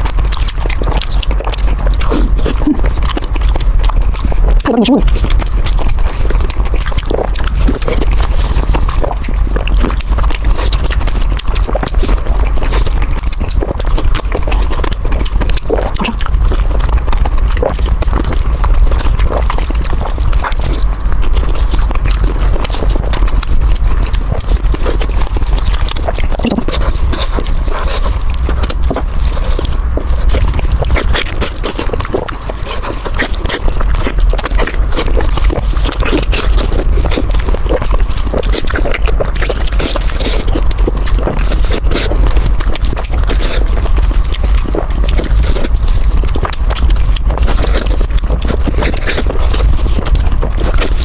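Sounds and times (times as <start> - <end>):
close chewing of crunchy food: 0.0 - 51.0
low rumble: 0.0 - 51.0.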